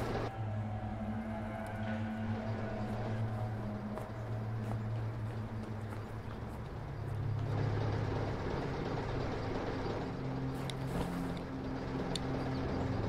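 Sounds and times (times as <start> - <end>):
vehicle engine idling: 1.6 - 13.0.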